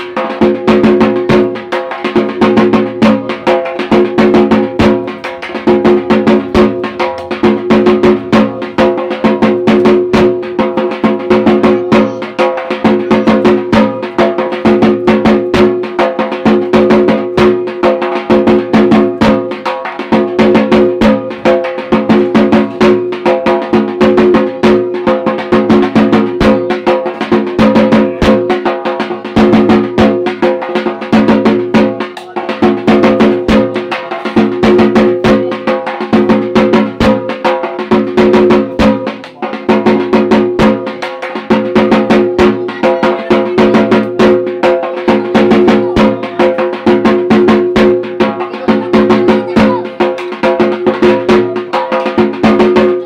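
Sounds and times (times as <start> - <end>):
loud percussion music: 0.0 - 53.0.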